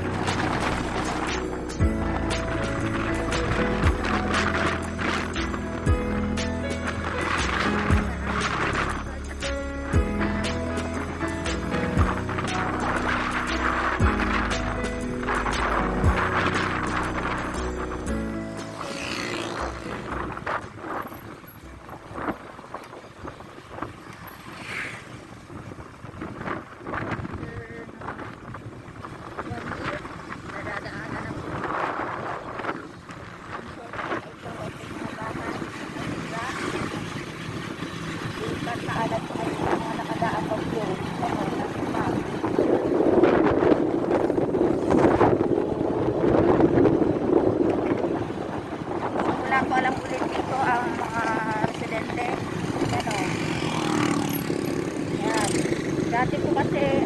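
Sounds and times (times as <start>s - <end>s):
low vehicle rumble: 0.0s - 24.5s, 25.2s - 57.0s
wind buffeting microphone: 0.0s - 57.0s.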